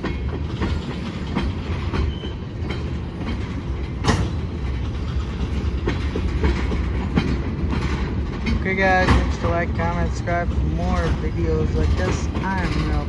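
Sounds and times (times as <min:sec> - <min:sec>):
freight train rumbling: 0:00.0 - 0:13.0
wheels clanking over rail joints: 0:00.0 - 0:13.0.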